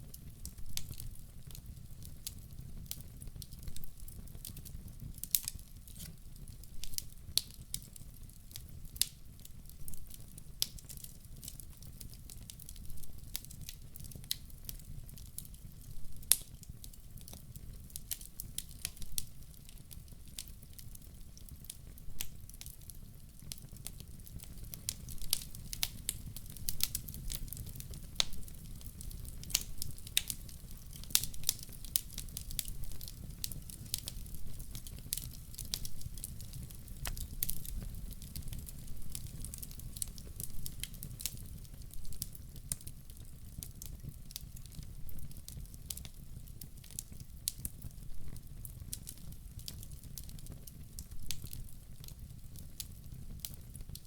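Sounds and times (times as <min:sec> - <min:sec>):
fire rumbling: 0:00.0 - 0:54.0
wood fire pops and snaps: 0:00.0 - 0:54.0.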